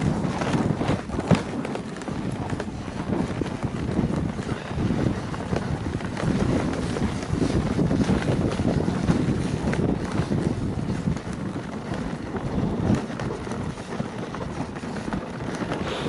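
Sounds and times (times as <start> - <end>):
sled rumbling across snow: 0.0 - 16.0
wind buffeting microphone: 0.0 - 16.0.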